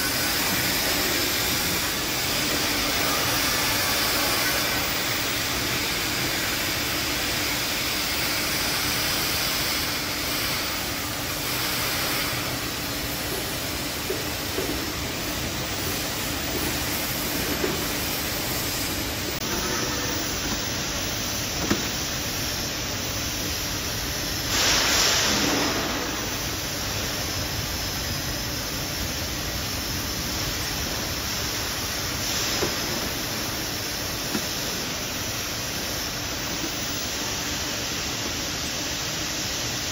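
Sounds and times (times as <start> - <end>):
conveyor machine hiss and hum: 0.0 - 39.9.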